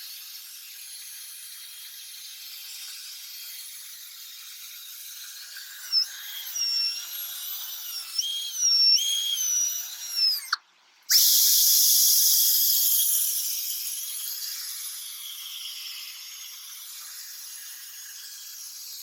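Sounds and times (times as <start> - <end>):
drill motor whine: 0.0 - 19.0.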